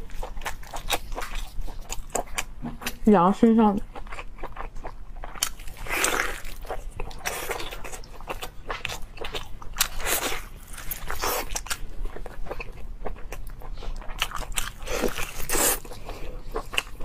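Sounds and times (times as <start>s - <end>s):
biting and chewing meat: 0.0s - 3.0s, 3.9s - 17.0s.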